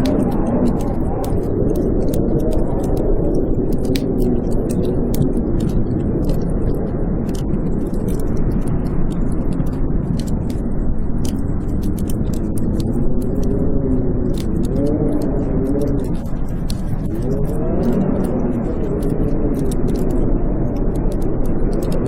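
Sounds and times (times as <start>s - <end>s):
blizzard wind howling: 0.0s - 22.0s
wood fire crackling: 0.0s - 22.0s.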